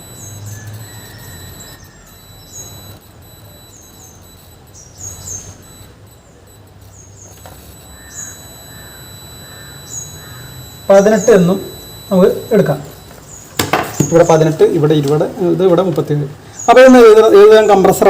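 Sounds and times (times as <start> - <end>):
small birds chirping: 0.0 - 15.5, 16.4 - 18.0
faint high whine: 0.0 - 18.0
low electrical hum: 0.0 - 18.0.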